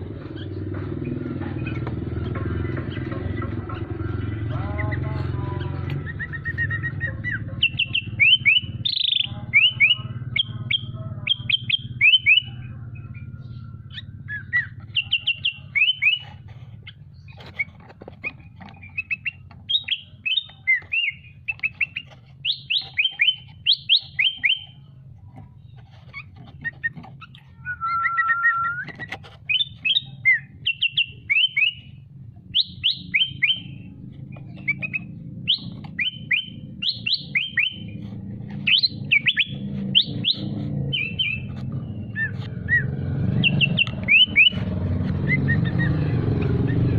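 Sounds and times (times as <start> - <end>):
songbird chirping: 0.0 - 46.9.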